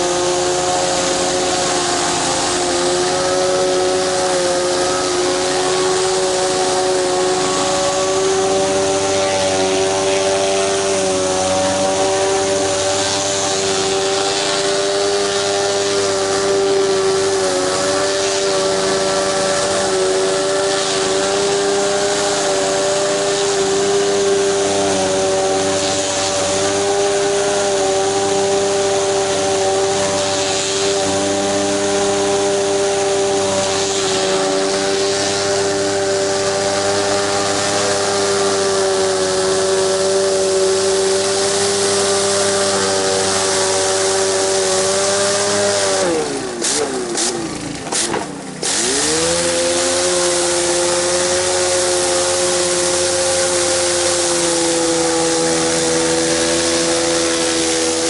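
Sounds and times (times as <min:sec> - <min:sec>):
high-pressure water spray hissing: 0:00.0 - 0:58.0
pressure washer engine running: 0:00.0 - 0:58.0.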